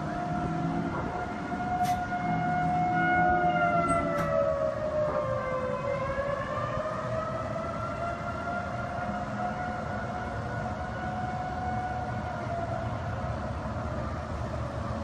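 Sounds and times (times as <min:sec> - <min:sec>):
outdoor warning siren wailing: 0:00.0 - 0:15.0.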